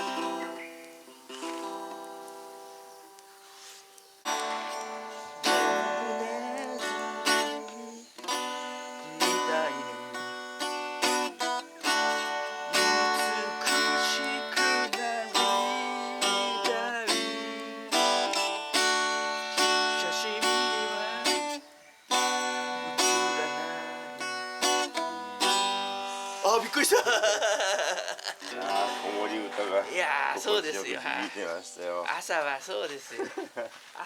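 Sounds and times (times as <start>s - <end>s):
acoustic guitar plucking: 0.0s - 32.3s.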